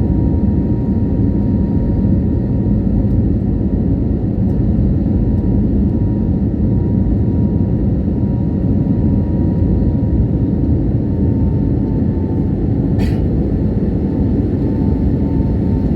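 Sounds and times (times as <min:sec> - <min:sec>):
jet engine cabin rumble: 0:00.0 - 0:15.9.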